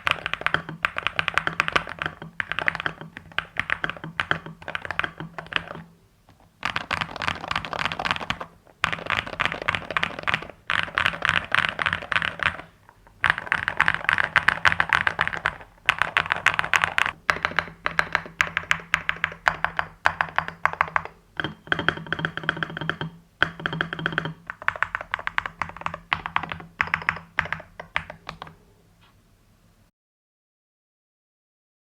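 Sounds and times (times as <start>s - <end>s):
keyboard keystroke clacks: 0.0s - 5.9s, 6.6s - 28.6s
faint steady low hum: 0.0s - 29.9s.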